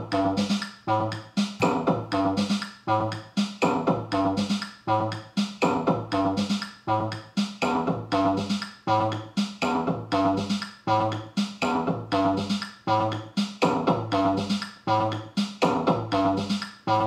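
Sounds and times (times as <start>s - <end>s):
electronic drum beat: 0.0s - 17.0s
pitched synth tones: 0.0s - 17.0s.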